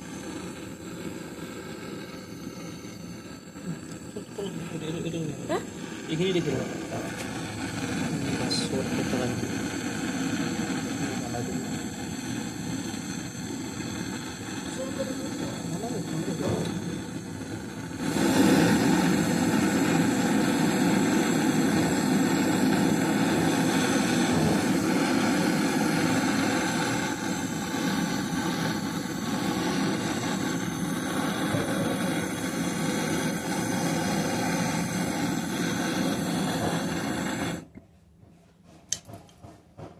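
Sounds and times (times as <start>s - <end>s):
machine running: 0.0s - 37.8s.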